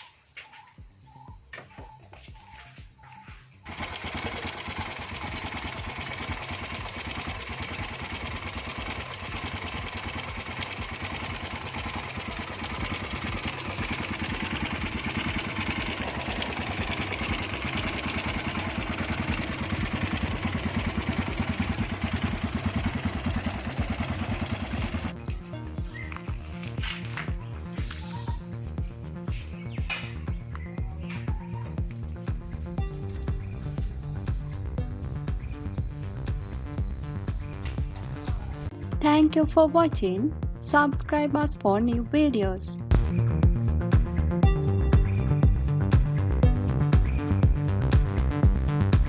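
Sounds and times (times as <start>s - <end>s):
motorcycle engine running: 0.8s - 49.0s.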